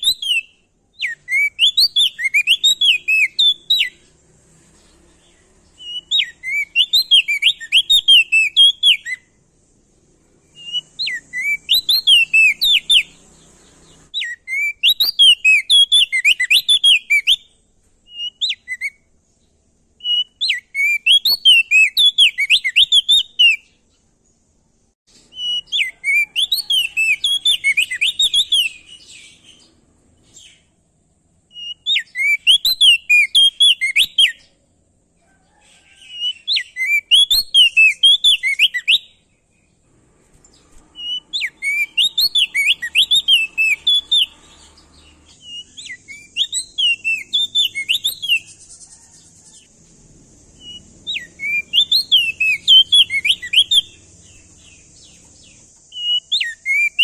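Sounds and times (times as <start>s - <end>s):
bird singing rapid notes: 0.0s - 24.2s, 25.1s - 30.8s, 36.2s - 57.0s.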